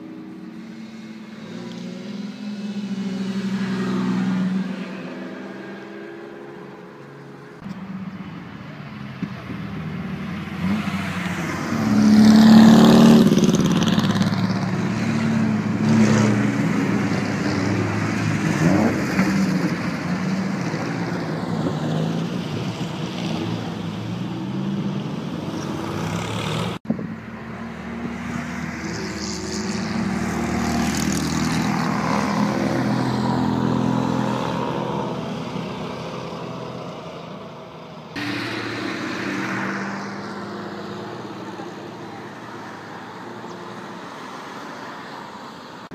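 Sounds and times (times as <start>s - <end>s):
cars driving past revving: 0.0s - 45.9s.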